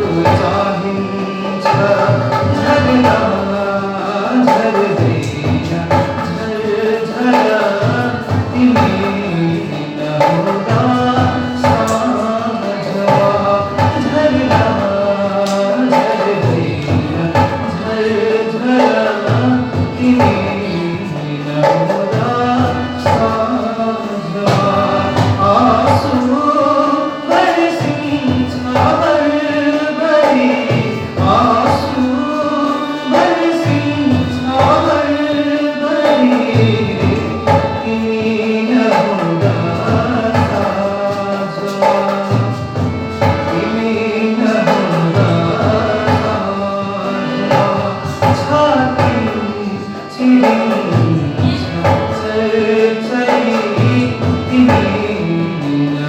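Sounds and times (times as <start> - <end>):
instrumental accompaniment: 0.0 - 56.0
man singing: 0.0 - 56.0.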